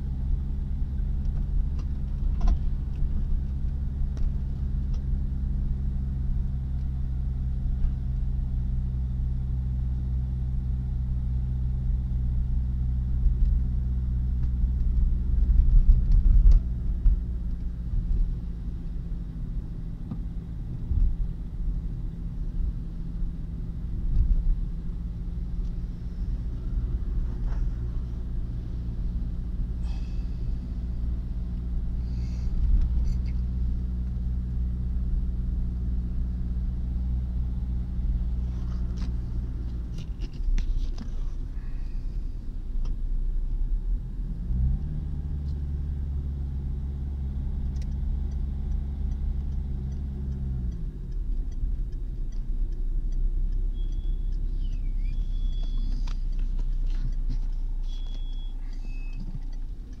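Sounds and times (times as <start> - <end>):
tyre road rumble: 0.0 - 60.0.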